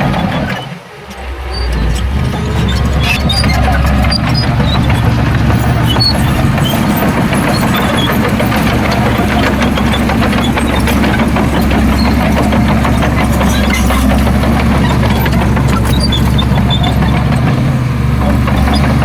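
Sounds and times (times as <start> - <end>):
dense continuous clatter: 0.0 - 19.0
heavy diesel engine running: 0.0 - 19.0.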